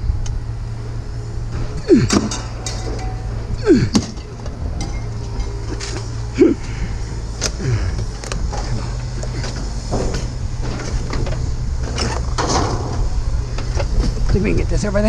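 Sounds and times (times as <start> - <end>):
vehicle engine humming: 0.0 - 15.0
scrap metal knocks and clanks: 1.4 - 6.3, 7.1 - 14.4.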